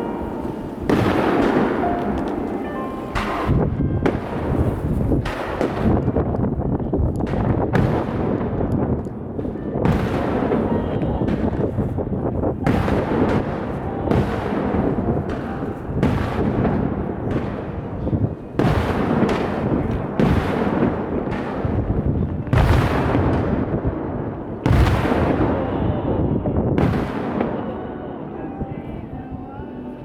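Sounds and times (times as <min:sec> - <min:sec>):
firework shells booming: 0:00.0 - 0:29.0.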